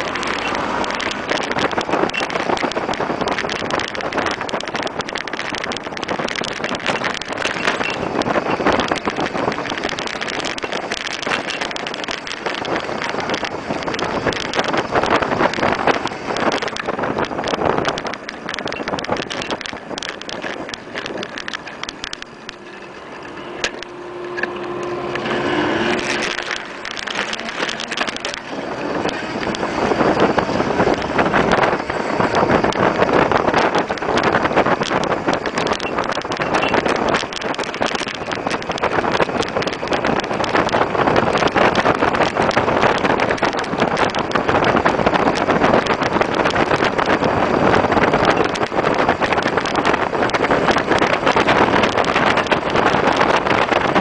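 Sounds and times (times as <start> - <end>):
vehicle road rattle: 0.0 - 54.0
wind buffeting microphone: 0.0 - 54.0.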